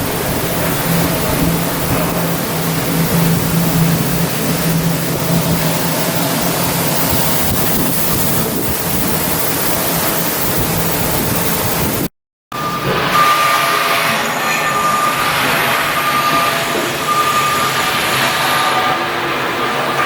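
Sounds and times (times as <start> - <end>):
low hum: 0.0 - 17.7
loud rushing noise: 0.0 - 20.0
steady noise with high tone: 0.0 - 20.0.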